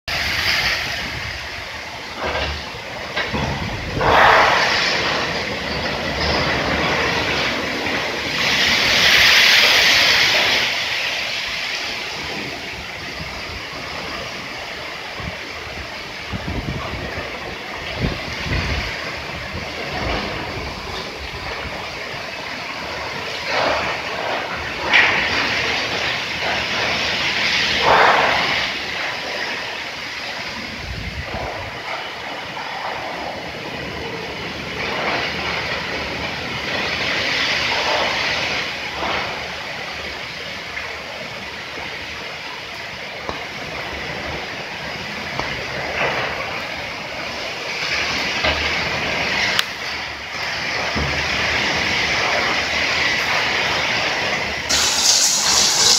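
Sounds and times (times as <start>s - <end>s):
strong gusty wind: 0.1s - 55.9s
wind rumble on microphone: 0.1s - 55.9s.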